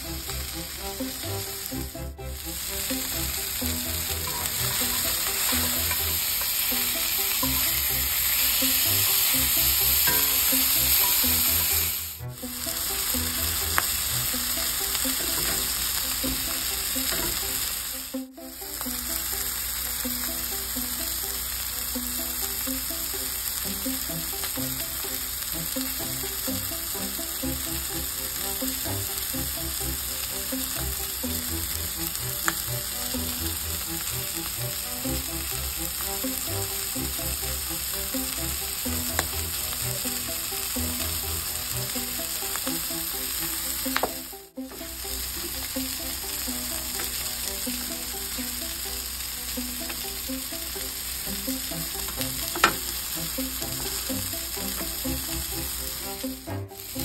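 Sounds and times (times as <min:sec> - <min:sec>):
pancake batter sizzling: 0:00.0 - 0:57.0
quiet background music: 0:00.0 - 0:57.0.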